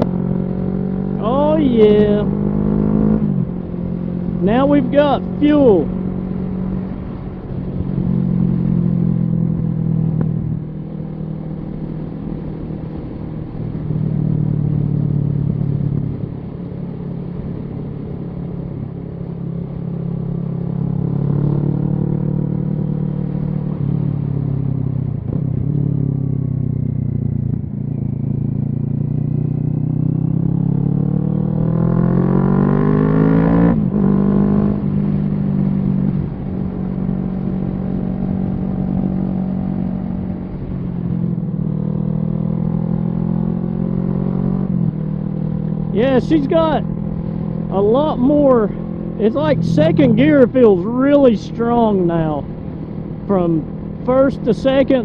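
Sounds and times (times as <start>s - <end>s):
motorcycle engine revving: 0.0s - 16.3s, 19.6s - 55.0s.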